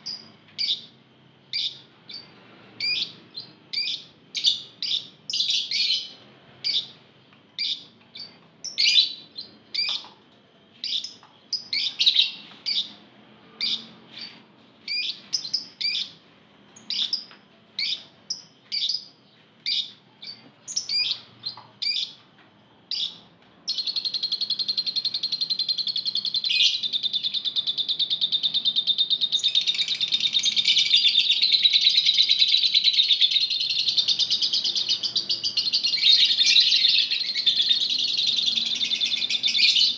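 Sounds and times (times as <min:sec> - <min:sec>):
lovebirds chattering trill: 0:00.0 - 0:07.0, 0:07.6 - 0:10.1, 0:10.8 - 0:16.2, 0:16.8 - 0:22.2, 0:22.9 - 0:39.9
lovebirds chirping: 0:00.0 - 0:07.0, 0:07.6 - 0:10.1, 0:10.8 - 0:22.2, 0:22.9 - 0:39.9.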